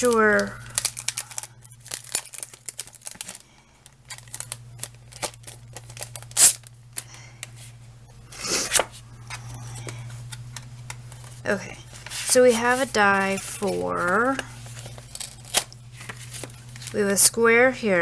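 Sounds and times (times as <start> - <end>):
plastic packaging crinkling: 0.0 - 7.7, 9.4 - 17.0
low steady hum: 0.0 - 18.0.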